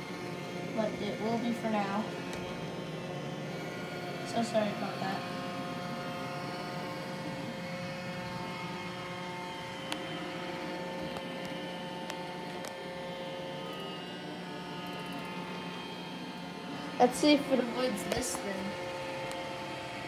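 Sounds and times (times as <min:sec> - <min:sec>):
robot vacuum motor whine: 0:00.0 - 0:20.0.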